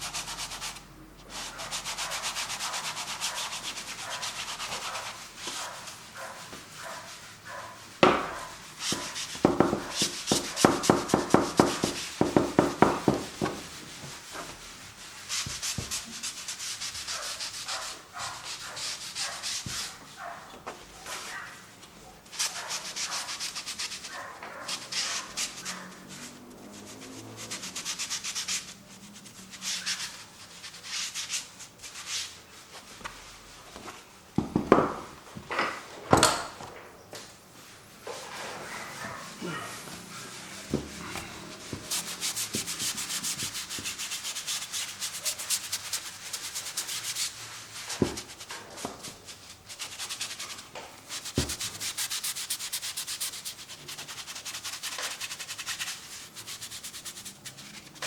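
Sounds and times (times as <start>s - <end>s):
paint brush scraping on canvas: 0.0s - 34.1s, 37.6s - 58.0s.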